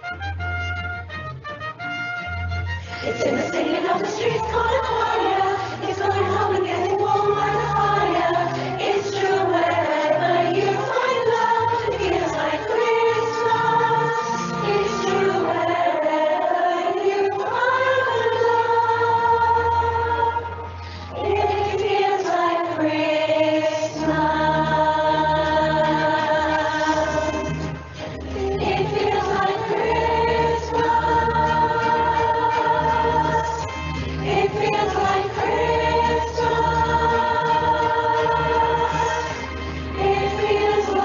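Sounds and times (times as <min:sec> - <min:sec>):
choir singing: 0:03.0 - 0:41.0.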